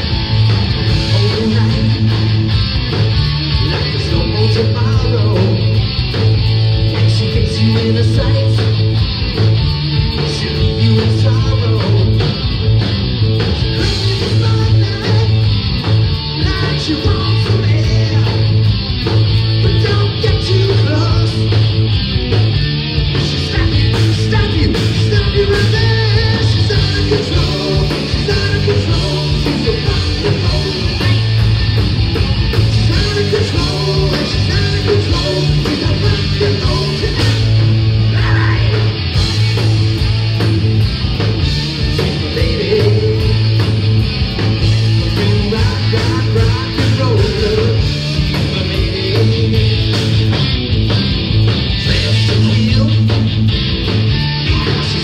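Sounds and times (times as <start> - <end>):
live rock band playing: 0.0 - 55.0
repeating bass line: 0.0 - 55.0
steady drum beat: 0.0 - 55.0.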